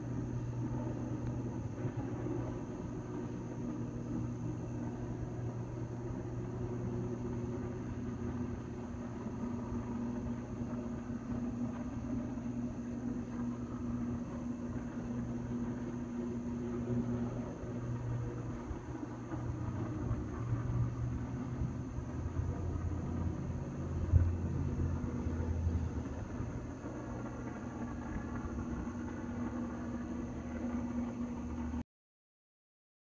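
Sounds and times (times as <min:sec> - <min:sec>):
electrical arc hum: 0:00.0 - 0:31.8.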